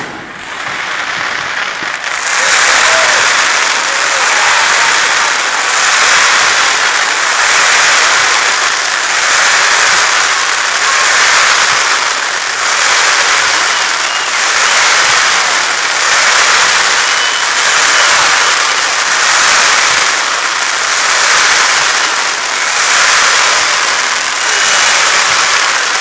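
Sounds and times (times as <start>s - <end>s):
fireworks crackling: 0.0s - 26.0s.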